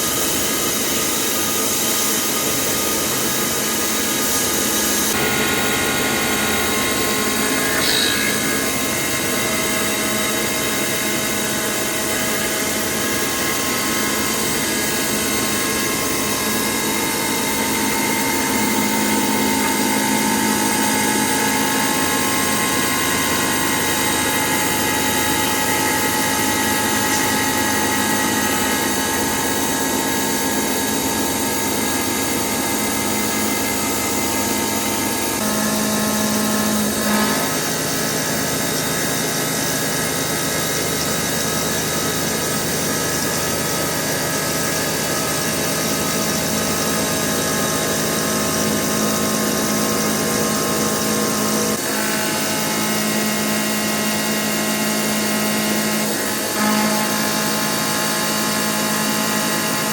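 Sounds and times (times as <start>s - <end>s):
milling machine cutting metal: 0.0s - 59.9s.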